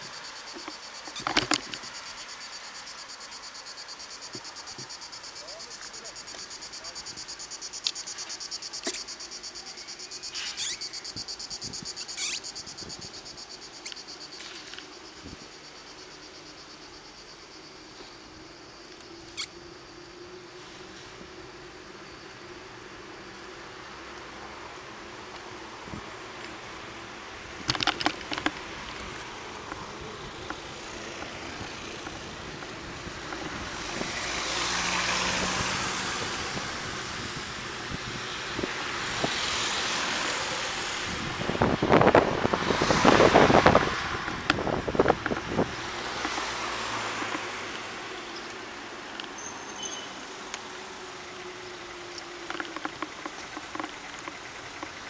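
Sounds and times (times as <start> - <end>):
cars passing: 0.0 - 55.0.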